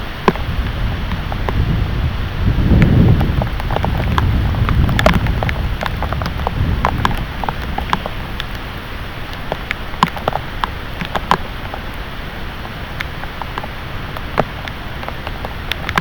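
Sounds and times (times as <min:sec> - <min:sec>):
low gusty rumble: 0:00.0 - 0:16.0
rain drops ticking on a surface: 0:00.0 - 0:16.0.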